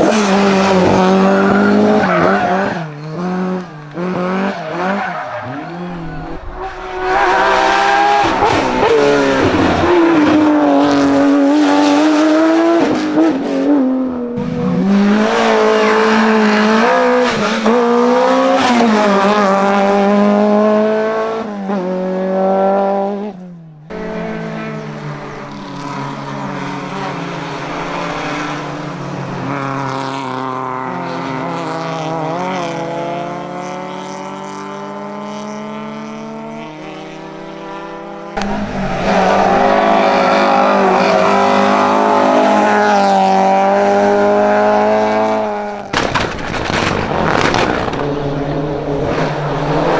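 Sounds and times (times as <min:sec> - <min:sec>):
race car engines accelerating: 0:00.0 - 0:49.9.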